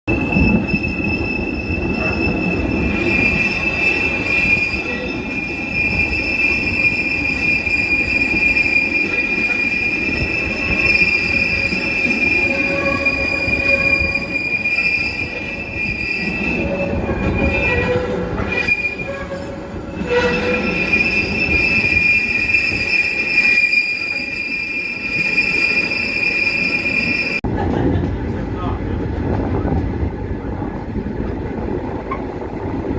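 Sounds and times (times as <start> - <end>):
train wheels squealing on rails: 0.1 - 27.4
rumble of running train cars: 0.1 - 32.9.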